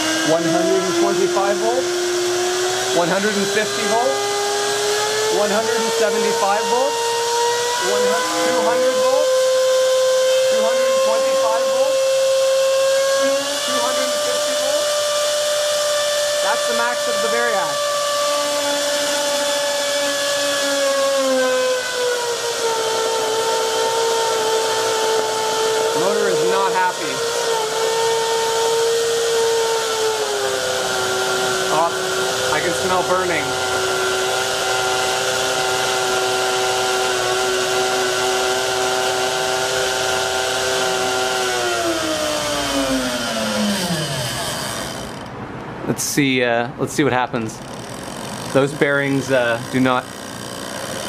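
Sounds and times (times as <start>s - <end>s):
blender motor high whine: 0.0s - 45.5s, 47.4s - 51.0s.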